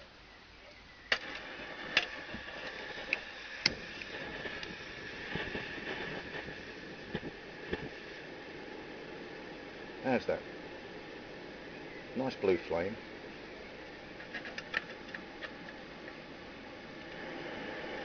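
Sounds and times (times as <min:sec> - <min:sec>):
burner pops: 0:01.1 - 0:18.0
stove burner roaring: 0:01.1 - 0:18.0.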